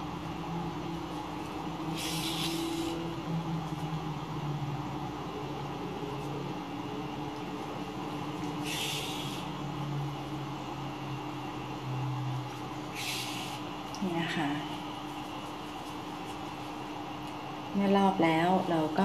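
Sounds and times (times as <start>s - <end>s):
steady low hum: 0.0s - 19.0s
yarn hissing through fabric: 0.0s - 19.0s.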